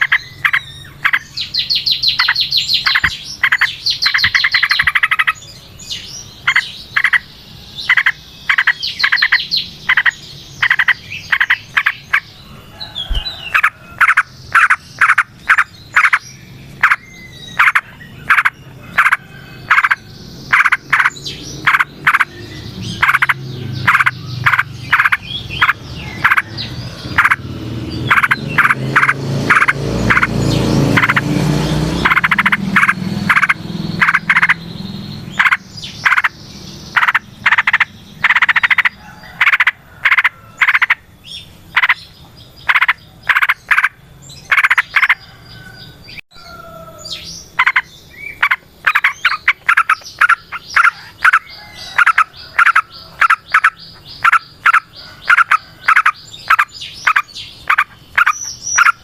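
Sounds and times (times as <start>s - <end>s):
frogs croaking: 0.0s - 59.0s
low rumbling frog chorus: 0.0s - 59.0s.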